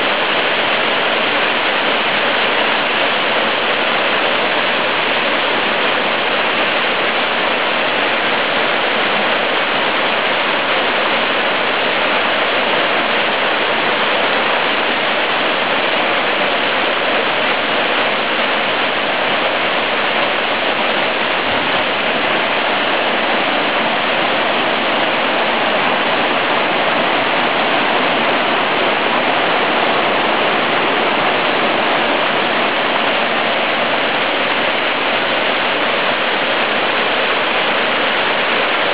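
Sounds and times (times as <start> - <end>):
small waterfall pouring: 0.0 - 38.9.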